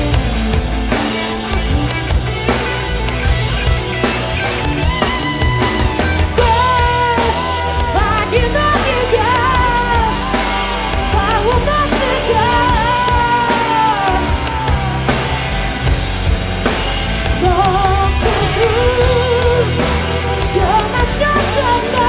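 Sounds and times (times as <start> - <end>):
bass: 0.0 - 22.0
drum kit with cymbals and snare: 0.0 - 22.0
wavering lead melody: 0.0 - 22.0.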